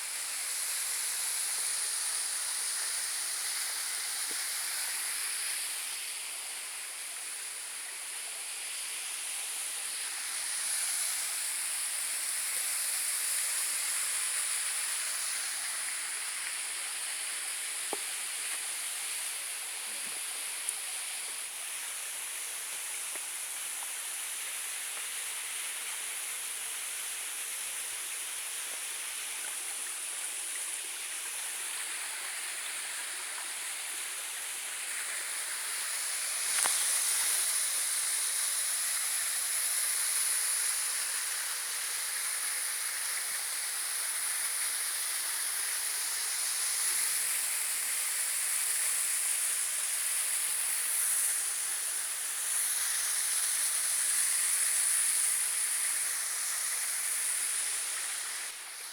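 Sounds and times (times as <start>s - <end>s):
running water hiss: 0.0s - 58.9s.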